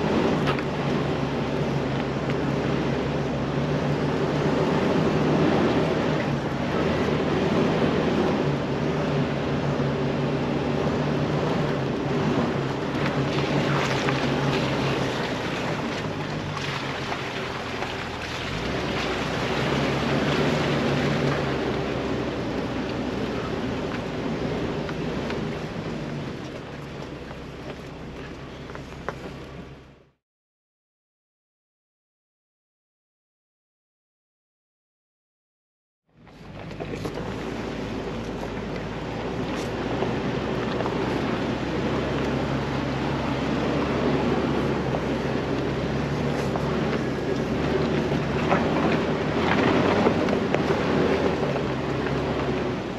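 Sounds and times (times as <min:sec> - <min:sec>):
engine running at low speed: 0:00.0 - 0:30.2, 0:36.1 - 0:52.9.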